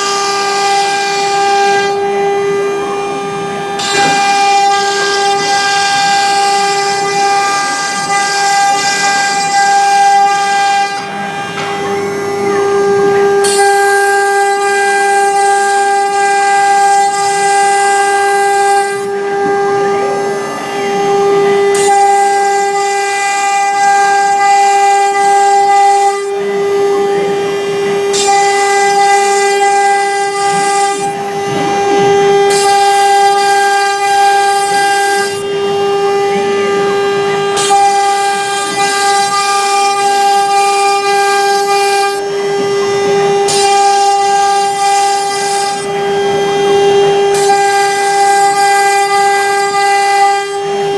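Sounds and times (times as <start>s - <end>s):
router spindle whine: 0.0s - 50.9s.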